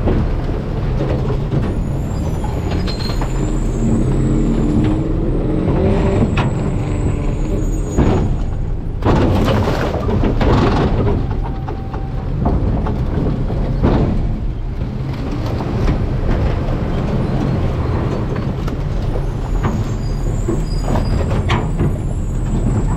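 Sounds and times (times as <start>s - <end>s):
garbage truck running: 0.0s - 22.9s
knocks and crunching from hopper: 0.0s - 22.9s.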